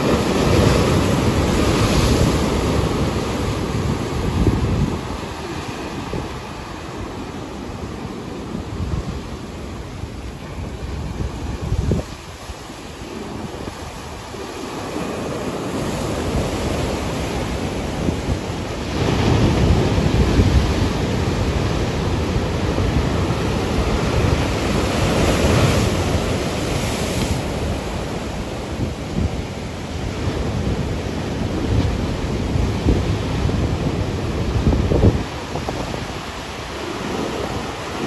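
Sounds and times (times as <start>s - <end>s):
waves breaking on rocky shore: 0.0s - 38.0s.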